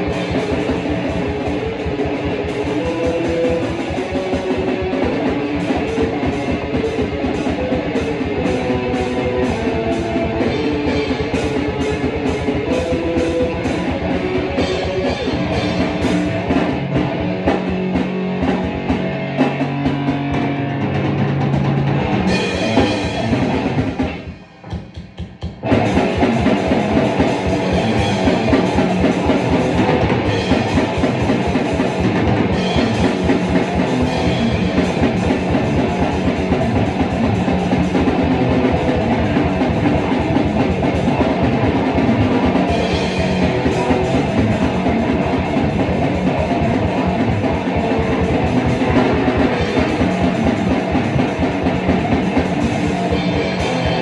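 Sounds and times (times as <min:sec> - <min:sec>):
distorted electric guitar: 0:00.0 - 0:54.0
fast driving drums: 0:00.0 - 0:54.0.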